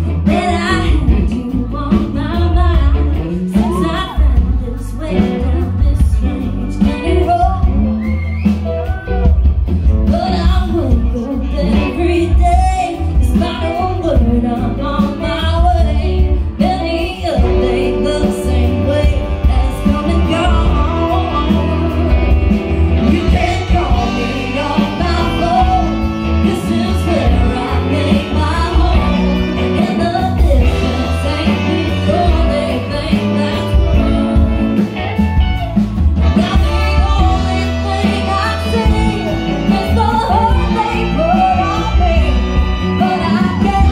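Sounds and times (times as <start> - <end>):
live band playing: 0.0 - 43.9
woman singing lead: 0.0 - 43.9.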